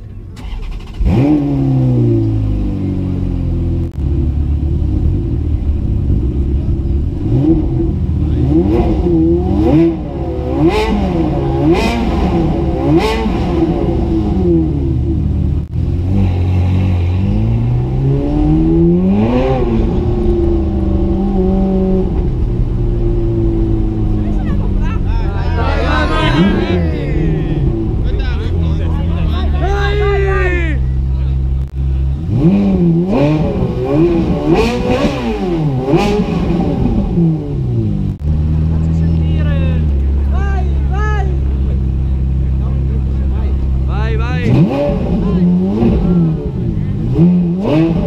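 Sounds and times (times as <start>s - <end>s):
sports car engine revving: 0.0s - 48.0s.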